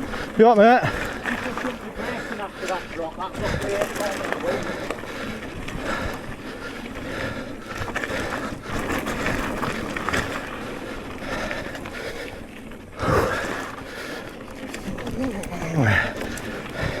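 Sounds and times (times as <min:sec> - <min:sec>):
bike tyres on dirt trail: 0:00.0 - 0:17.0.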